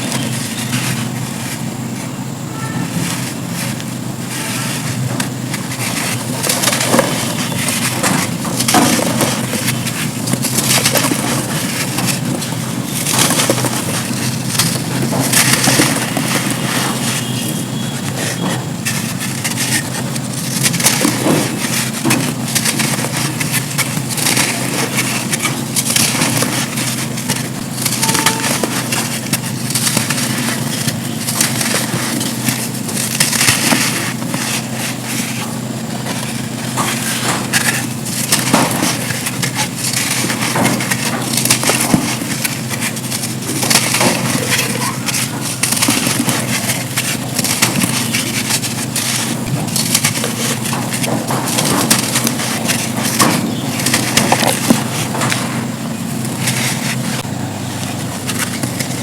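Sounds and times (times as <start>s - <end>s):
dry sand crunching: 0.0s - 59.0s.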